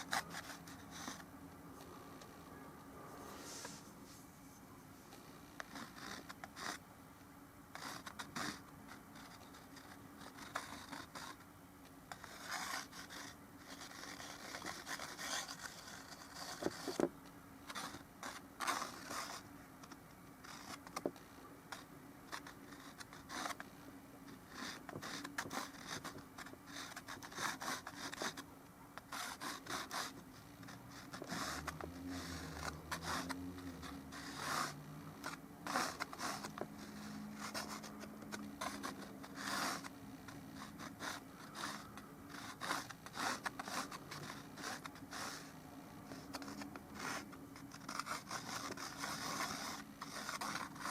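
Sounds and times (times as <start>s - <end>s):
paintbrush scraping on canvas: 0.0s - 6.8s, 12.1s - 17.1s, 17.7s - 23.7s, 24.3s - 50.9s.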